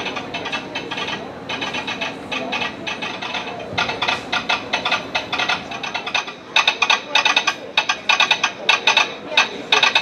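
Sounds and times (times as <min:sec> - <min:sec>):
telegraph sounder clicking: 0:00.0 - 0:10.0.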